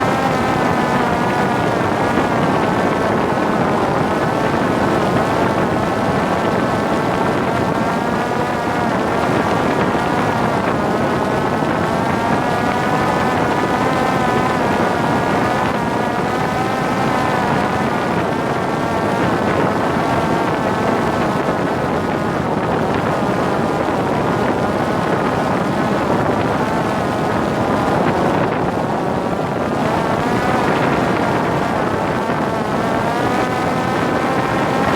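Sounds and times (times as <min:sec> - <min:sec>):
drone propeller whining: 0:00.0 - 0:34.9
wind rushing over microphone: 0:00.0 - 0:34.9.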